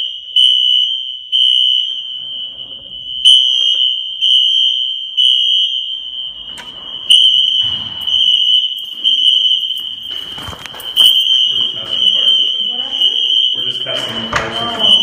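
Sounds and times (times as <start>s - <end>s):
fire alarm horns pulsing: 0.0s - 15.0s.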